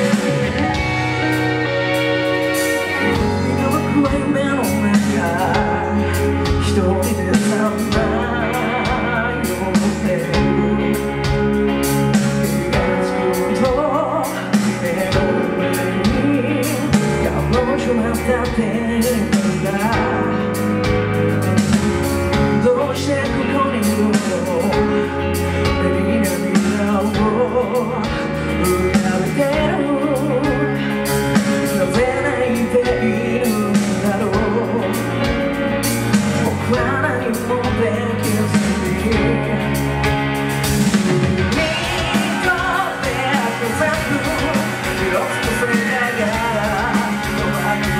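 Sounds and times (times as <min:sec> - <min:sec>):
bass guitar: 0:00.0 - 0:47.9
drums: 0:00.0 - 0:47.9
electric guitar: 0:00.0 - 0:47.9
lead vocalist singing: 0:00.0 - 0:47.9.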